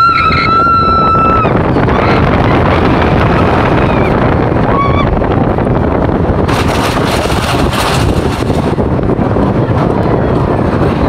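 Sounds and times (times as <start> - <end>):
wheels rumbling on steel track: 0.0 - 11.0
wind rushing on microphone: 0.0 - 11.0.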